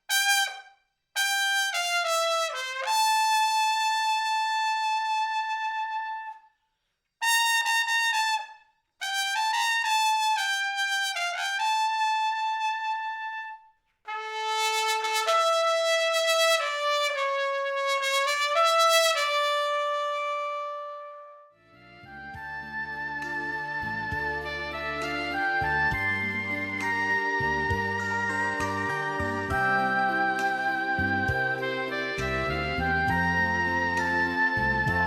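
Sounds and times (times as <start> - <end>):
solo trumpet slow melody: 0.0 - 6.5, 7.2 - 35.0.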